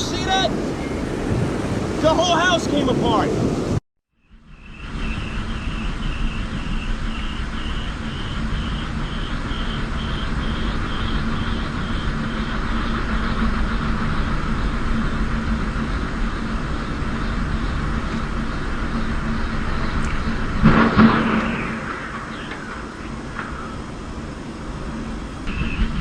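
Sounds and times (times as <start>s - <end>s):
storm wind roaring: 0.0s - 3.8s, 4.5s - 26.0s.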